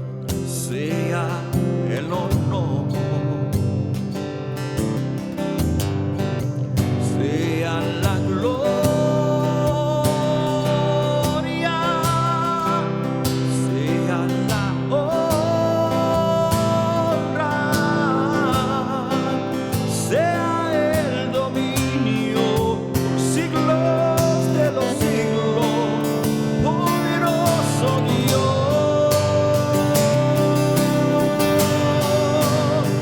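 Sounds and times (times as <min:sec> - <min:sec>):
wordless singing melody: 0:00.0 - 0:04.1, 0:06.8 - 0:33.0
acoustic guitar chords: 0:00.0 - 0:33.0.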